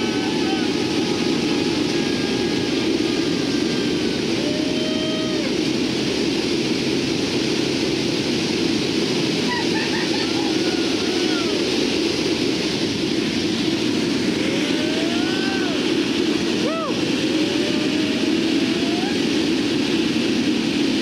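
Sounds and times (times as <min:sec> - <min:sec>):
turboprop engines loud hum: 0:00.0 - 0:21.0.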